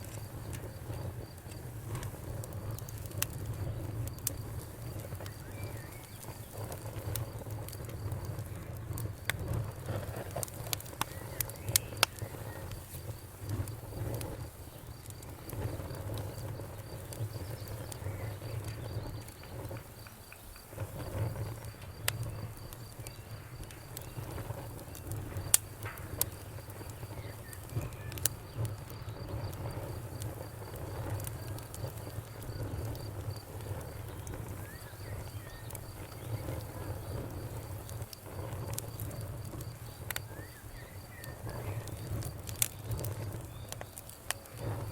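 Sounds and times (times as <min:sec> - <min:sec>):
fire crackling: 0:00.0 - 0:44.9
wood popping: 0:00.0 - 0:44.9.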